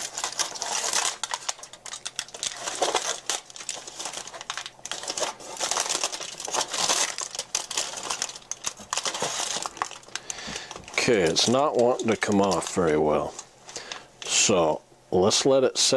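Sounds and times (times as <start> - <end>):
aluminum foil crinkling: 0.0 - 14.4.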